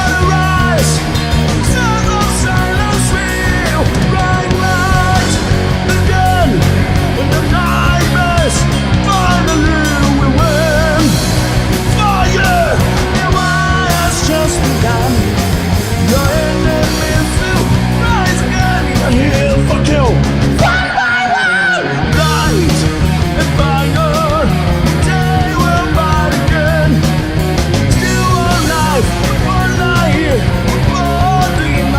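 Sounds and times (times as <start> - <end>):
bending lead guitar line: 0.0 - 31.9
rock band playing live: 0.0 - 31.9.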